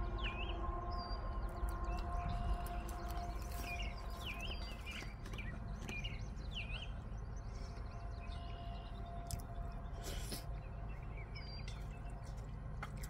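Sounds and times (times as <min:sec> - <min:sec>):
bird chirping: 0:00.0 - 0:13.0
low outdoor background hum: 0:00.0 - 0:13.0.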